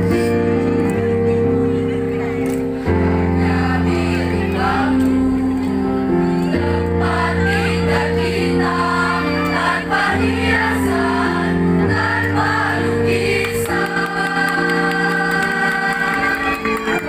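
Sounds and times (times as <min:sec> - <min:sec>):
choir singing sustained chords: 0:02.7 - 0:17.0.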